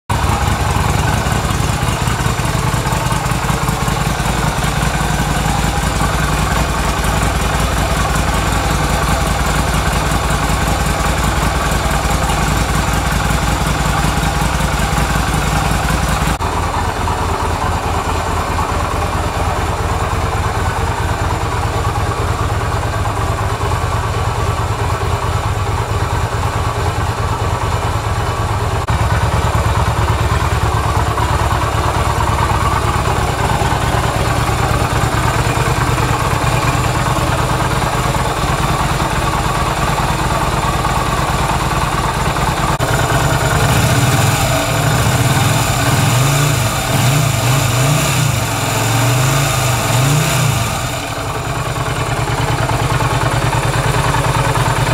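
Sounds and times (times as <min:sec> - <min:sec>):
motorcycle engine idling: 0:00.1 - 0:54.9.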